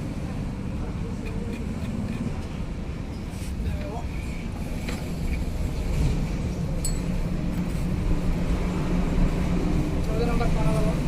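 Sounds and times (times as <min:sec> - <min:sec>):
rumble of passing vehicles: 0:00.0 - 0:11.0.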